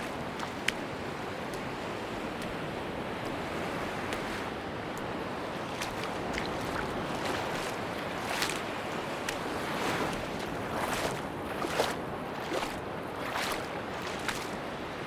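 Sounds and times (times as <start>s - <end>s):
sea surf washing on beach: 0.0s - 15.0s.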